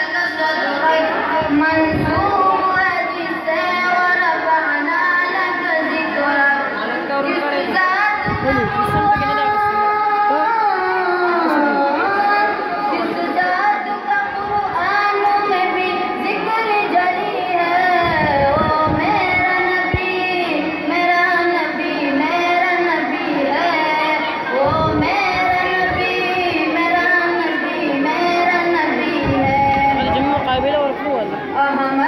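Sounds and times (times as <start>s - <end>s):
boy singing into a microphone: 0.0s - 32.0s.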